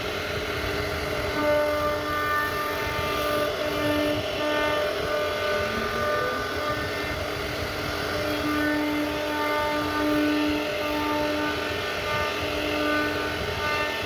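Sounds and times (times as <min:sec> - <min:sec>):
rough wood cutting noise: 0:00.0 - 0:14.0
router spindle whine: 0:00.0 - 0:14.0.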